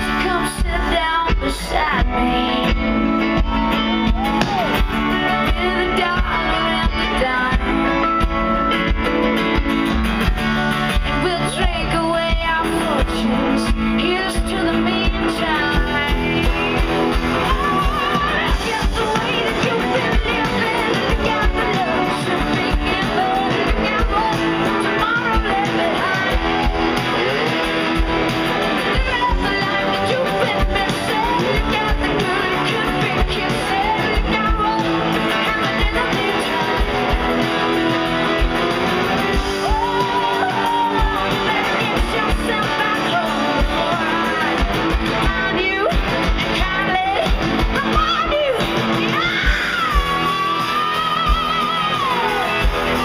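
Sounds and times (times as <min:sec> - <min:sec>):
steady drum beat: 0:00.0 - 0:53.0
strummed guitar: 0:00.0 - 0:53.0
woman singing lead: 0:00.0 - 0:53.0.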